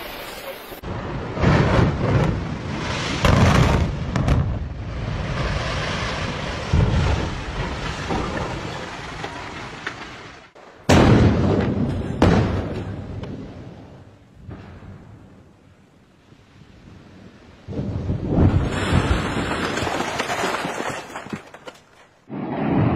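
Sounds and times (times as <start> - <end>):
building collapse rumble: 0.1 - 15.5, 17.7 - 22.9
demolition charge blasts: 0.8 - 15.2, 17.7 - 22.9.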